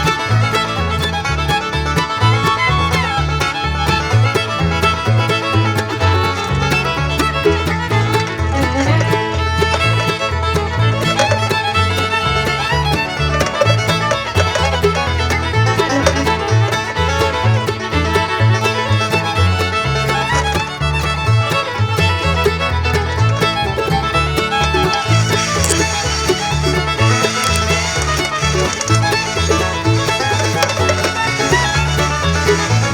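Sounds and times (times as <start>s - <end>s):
bluegrass country music: 0.0s - 32.9s.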